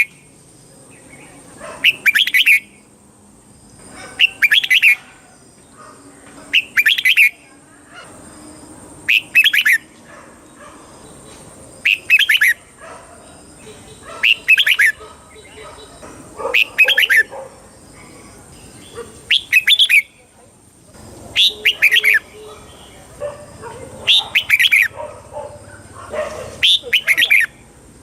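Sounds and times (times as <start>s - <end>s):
bulbul singing bright phrases: 0.0s - 2.9s, 4.1s - 5.8s, 6.4s - 10.1s, 11.0s - 25.0s, 26.6s - 27.7s.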